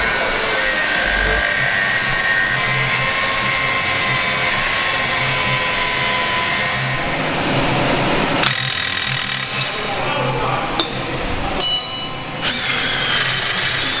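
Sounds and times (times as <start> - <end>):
power tool whining: 0.0 - 9.8, 12.4 - 14.0.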